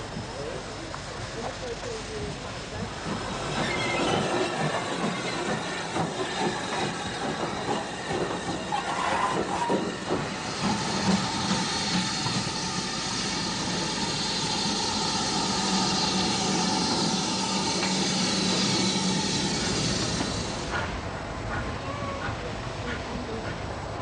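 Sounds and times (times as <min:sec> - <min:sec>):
steam hissing: 0:00.0 - 0:24.0
steam locomotive moving past: 0:00.0 - 0:24.0.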